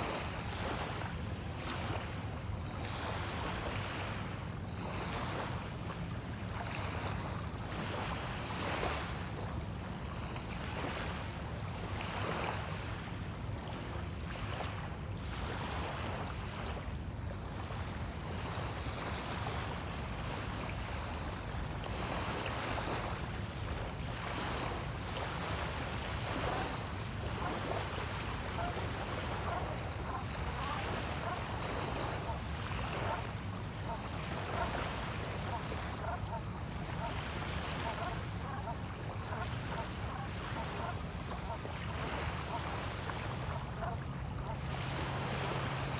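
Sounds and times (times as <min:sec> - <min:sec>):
small waves washing onto shore: 0:00.0 - 0:45.9.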